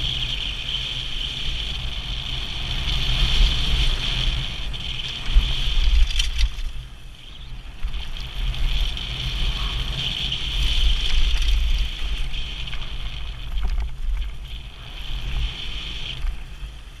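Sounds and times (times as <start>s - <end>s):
bike tyre rattle: 0.0s - 17.0s
wind rushing over microphone: 0.0s - 17.0s.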